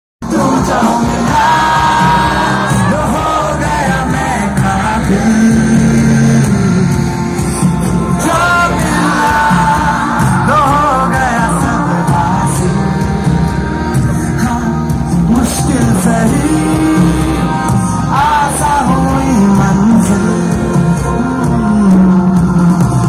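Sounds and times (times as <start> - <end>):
crowd yelling and whooping: 0.2 - 23.0
loud amplified live music: 0.2 - 23.0
person singing: 0.2 - 23.0.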